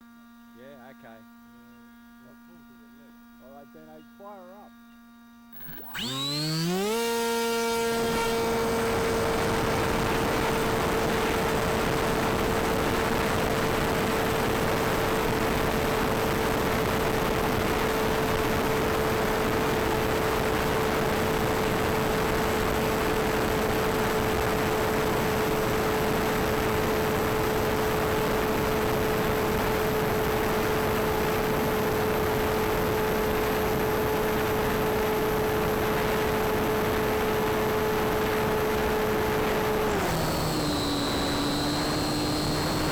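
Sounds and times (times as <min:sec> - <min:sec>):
model plane motor whine: 0:00.0 - 0:42.9.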